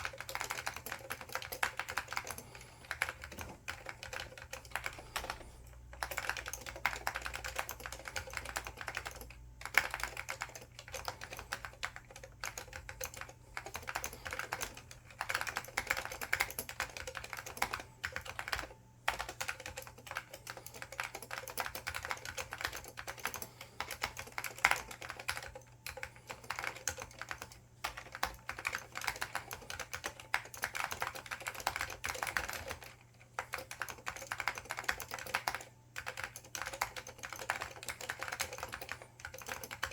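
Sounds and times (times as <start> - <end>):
fast typing on a clicky keyboard: 0.0 - 39.9.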